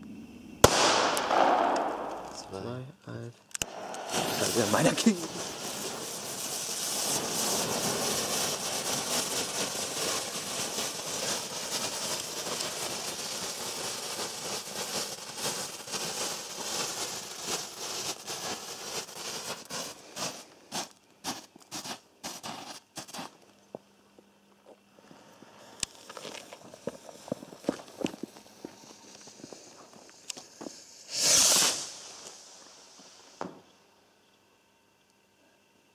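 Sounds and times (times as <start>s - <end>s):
firework fountain hissing: 0.0s - 23.4s, 25.0s - 34.3s
firework sputtering: 0.6s - 23.4s, 25.5s - 33.8s.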